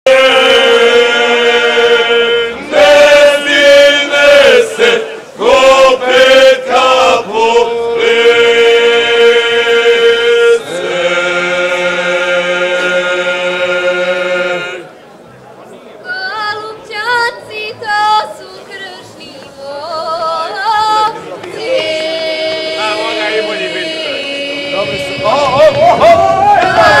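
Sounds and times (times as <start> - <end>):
group singing unaccompanied: 0.1 - 15.0, 16.1 - 27.0.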